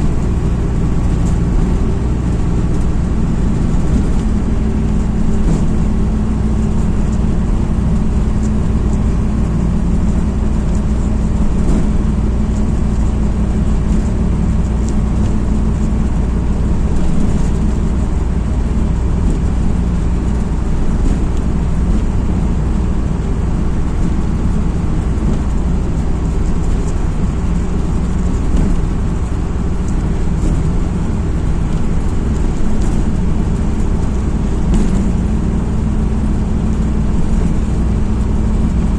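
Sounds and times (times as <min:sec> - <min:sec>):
bus diesel engine running: 0:00.0 - 0:38.9
road noise: 0:00.0 - 0:38.9.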